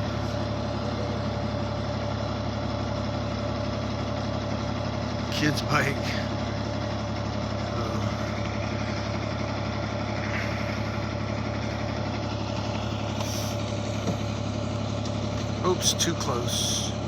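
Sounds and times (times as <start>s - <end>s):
large vehicle engine idling: 0.0s - 17.0s.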